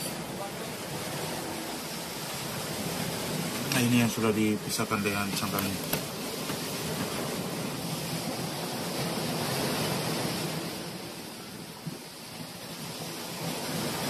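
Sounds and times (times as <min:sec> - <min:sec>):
surf rushing: 0:00.0 - 0:14.0
wind: 0:00.0 - 0:14.0.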